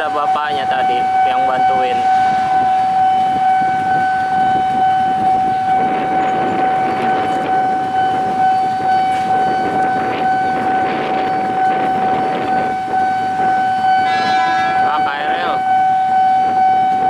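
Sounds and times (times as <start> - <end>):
level crossing alarm tone: 0.0 - 17.0.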